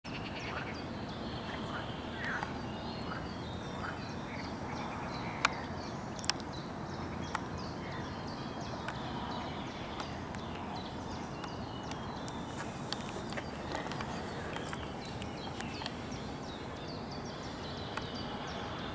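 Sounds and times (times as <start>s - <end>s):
low background noise: 0.1s - 18.9s.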